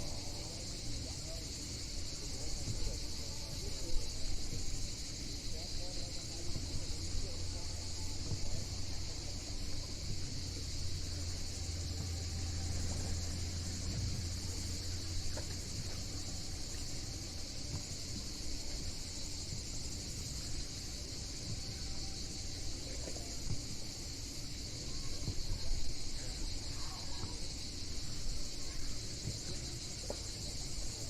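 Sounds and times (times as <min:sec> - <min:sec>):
insect chorus: 0:00.0 - 0:31.0
low uneven rumbling: 0:00.0 - 0:31.0.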